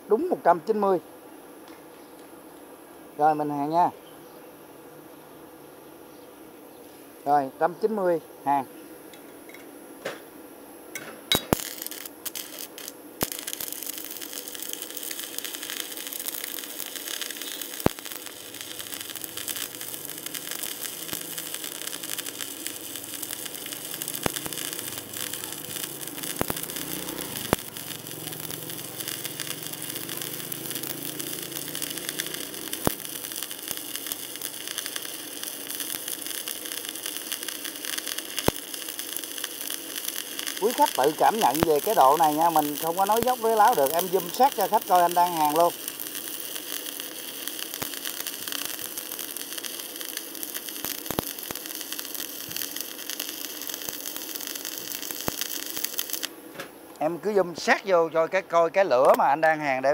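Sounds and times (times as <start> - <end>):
welding arc hissing crackle: 0.0 - 1.0, 3.2 - 3.9, 6.8 - 59.9
welding sharp pops: 9.1 - 57.9, 58.9 - 59.5.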